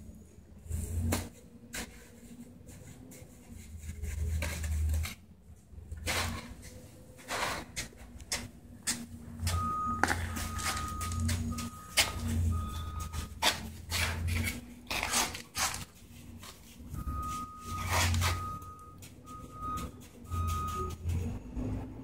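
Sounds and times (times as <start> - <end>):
concrete mix scraping and knocking: 0.6 - 21.4.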